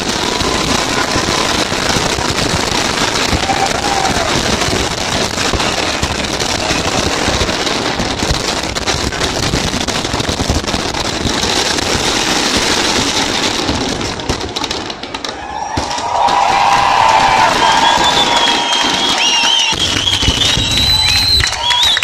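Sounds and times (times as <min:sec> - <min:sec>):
firework shells bursting: 0:00.0 - 0:22.0
glittering firework crackle: 0:00.0 - 0:22.0.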